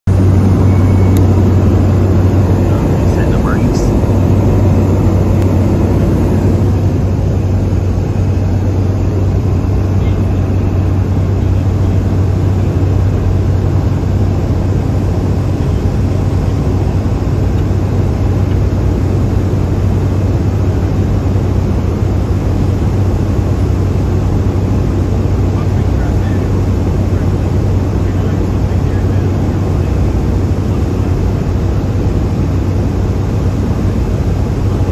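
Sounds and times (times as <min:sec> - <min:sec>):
turboprop cabin drone: 0:00.0 - 0:34.9.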